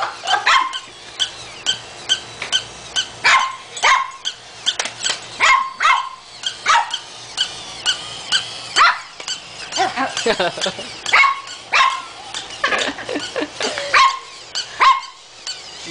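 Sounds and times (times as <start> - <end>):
toy dog yapping: 0.0 - 15.9.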